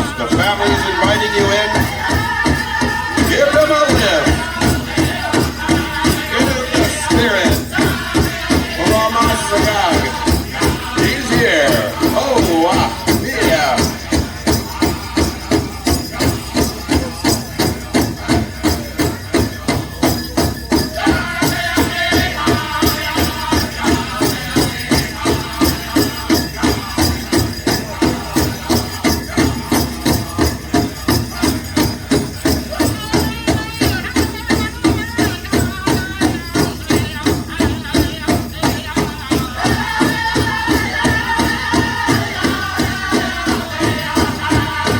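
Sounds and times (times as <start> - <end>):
big drum beating: 0.0 - 44.9
high-pitched group singing: 0.0 - 44.9
metal jingle cones shaking: 0.0 - 44.9.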